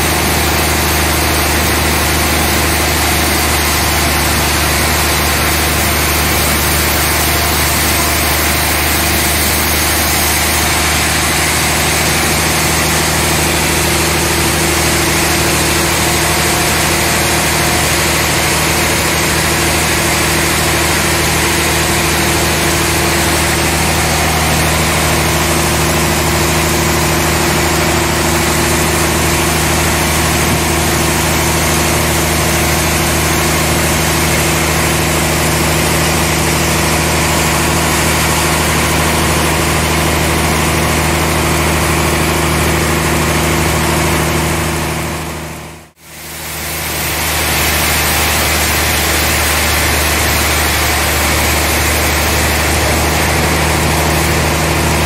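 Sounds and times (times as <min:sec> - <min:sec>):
band saw cutting log: 0:00.0 - 0:55.0
sawmill mechanical hum: 0:00.0 - 0:55.0.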